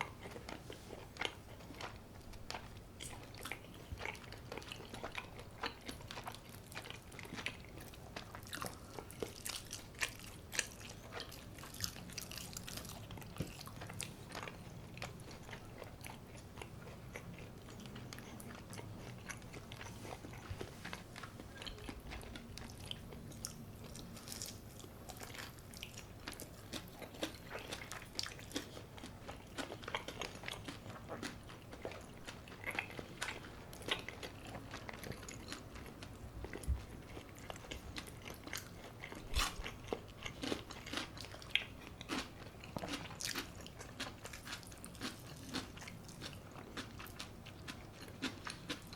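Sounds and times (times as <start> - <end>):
crunching and chewing crispy food: 0.0 - 48.9.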